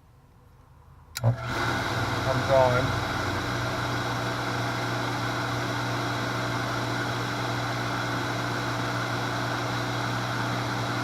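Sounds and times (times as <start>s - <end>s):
electric pump motor humming: 1.2s - 11.0s.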